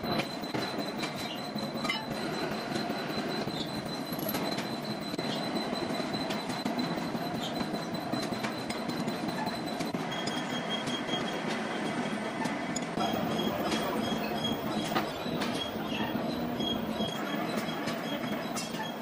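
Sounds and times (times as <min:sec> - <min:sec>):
machinery high whine: 0:00.0 - 0:19.0.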